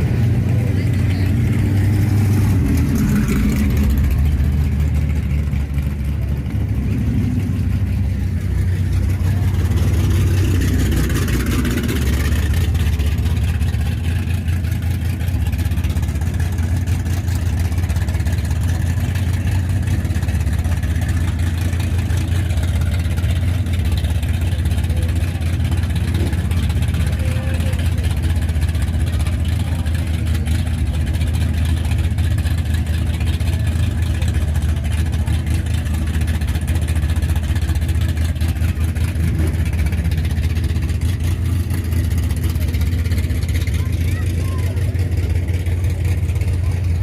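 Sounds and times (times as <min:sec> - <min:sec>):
car engines rumbling: 0:00.0 - 0:47.0.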